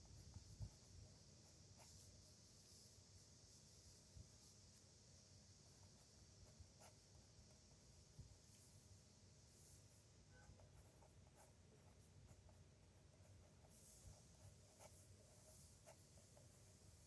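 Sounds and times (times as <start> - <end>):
pen scratching on paper: 0.0 - 4.8, 5.6 - 7.6, 9.5 - 17.0.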